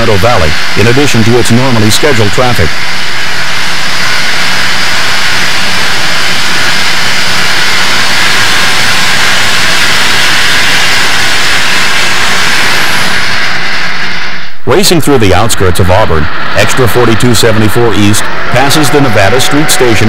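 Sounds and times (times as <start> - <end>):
steam locomotive roaring in tunnel: 0.0 - 20.0.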